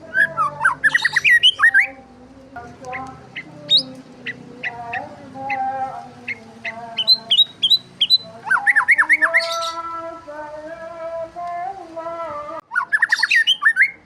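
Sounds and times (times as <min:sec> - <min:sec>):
soft drawn-out bird notes: 0:00.0 - 0:10.2, 0:12.6 - 0:14.0
small birds chirping: 0:00.0 - 0:14.0.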